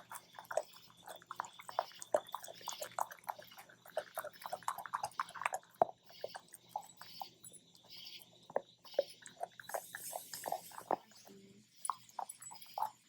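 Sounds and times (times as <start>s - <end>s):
puppies chewing bone: 0.0s - 13.0s.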